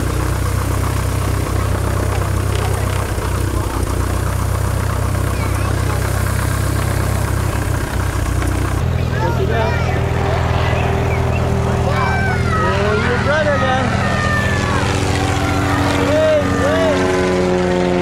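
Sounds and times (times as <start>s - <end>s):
airplane engine idling: 0.0s - 18.0s.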